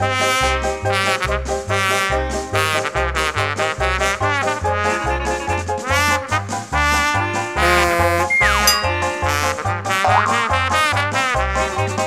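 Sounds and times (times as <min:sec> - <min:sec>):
swing music with brass horns: 0:00.0 - 0:12.0.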